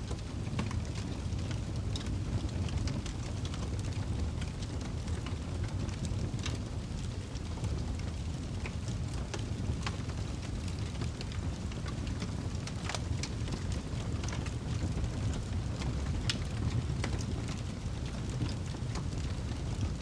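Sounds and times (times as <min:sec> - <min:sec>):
low rumble of fire: 0:00.0 - 0:20.0
wood fire crackling: 0:00.1 - 0:20.0.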